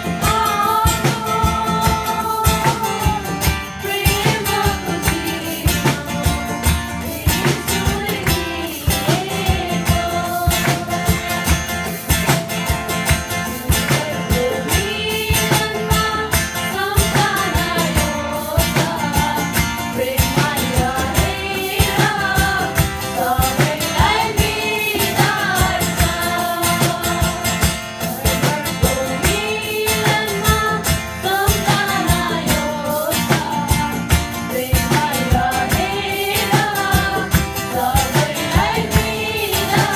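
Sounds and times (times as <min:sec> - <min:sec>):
song with singing over guitar: 0:00.0 - 0:39.9.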